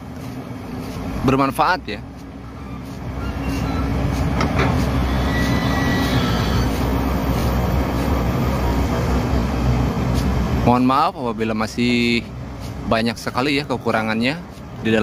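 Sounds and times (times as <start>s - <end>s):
heavy machinery diesel engines: 0.0s - 15.0s.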